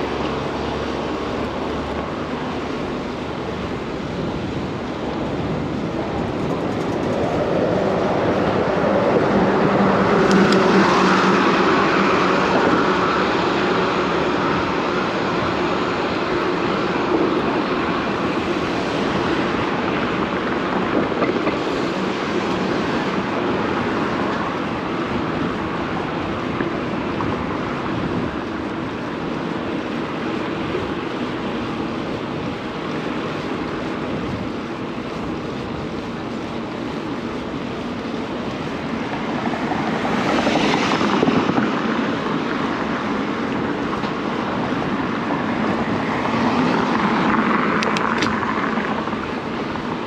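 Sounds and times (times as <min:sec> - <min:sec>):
city traffic rush: 0:00.0 - 0:50.0
wind over microphone: 0:00.0 - 0:50.0.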